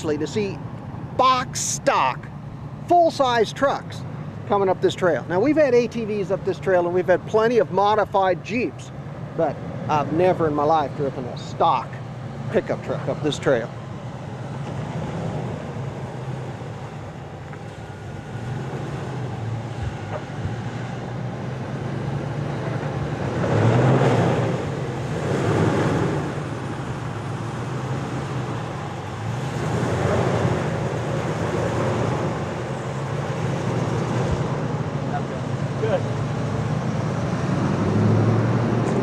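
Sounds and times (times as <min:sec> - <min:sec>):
truck engine under load: 0:00.0 - 0:39.0.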